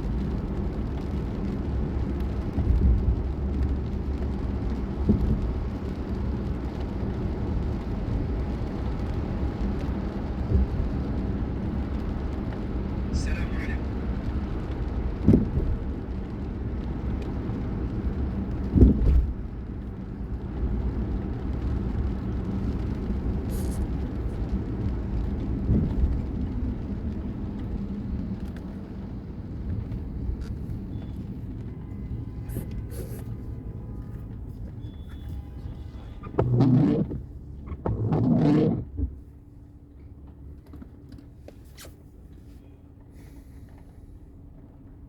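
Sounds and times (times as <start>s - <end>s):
vehicle rumbling in motion: 0.0s - 45.0s.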